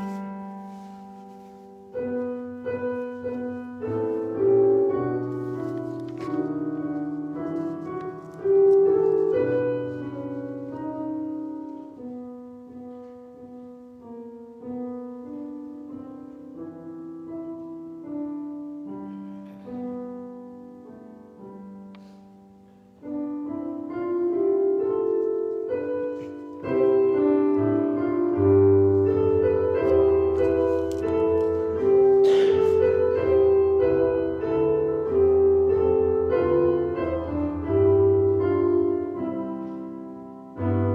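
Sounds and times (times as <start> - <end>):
soft slow piano music: 0.0 - 40.9.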